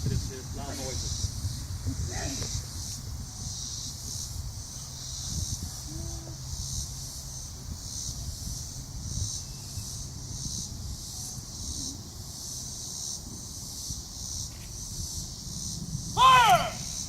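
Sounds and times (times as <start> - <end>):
insects pulsing chorus: 0.0 - 17.0
low wind rumble: 0.0 - 17.0.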